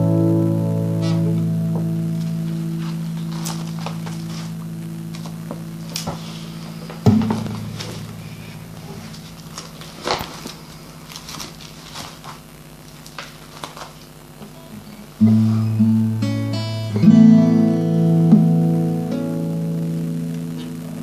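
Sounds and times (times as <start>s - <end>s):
acoustic guitar chords and notes: 0.0s - 21.0s.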